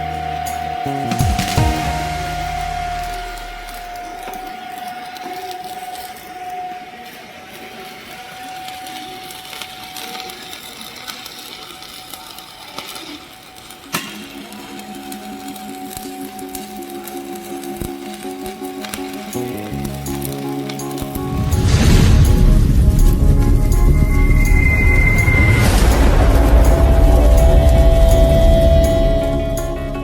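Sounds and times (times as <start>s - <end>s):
welding arc crackling: 0.0s - 30.0s.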